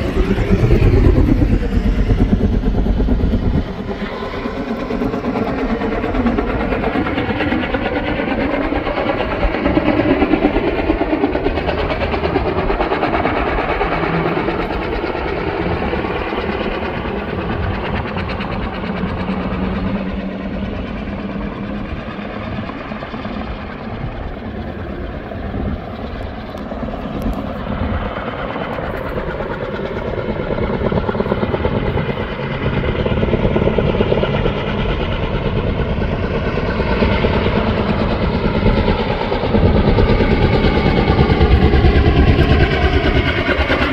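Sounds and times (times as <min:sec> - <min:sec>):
helicopter rotor and engine: 0:00.0 - 0:43.9.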